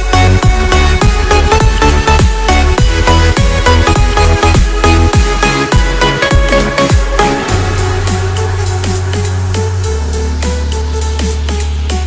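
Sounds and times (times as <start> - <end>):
deep sustained bass: 0.0 - 12.0
electronic dance music: 0.0 - 12.0.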